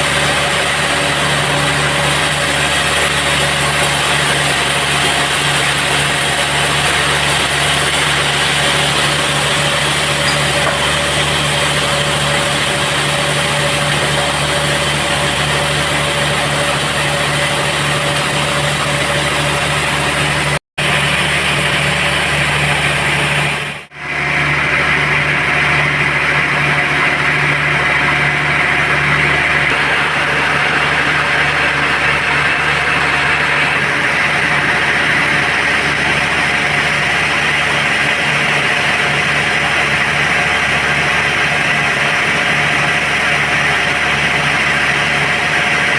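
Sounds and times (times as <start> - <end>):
band saw running: 0.0 - 45.9.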